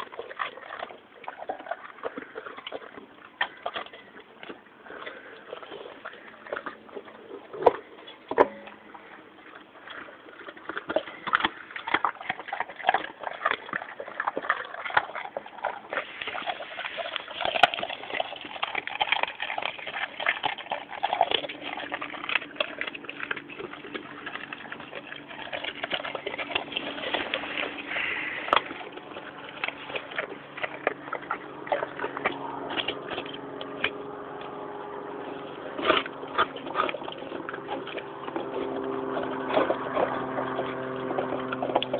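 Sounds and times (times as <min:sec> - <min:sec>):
dogs crunching bones: 0:00.0 - 0:41.9.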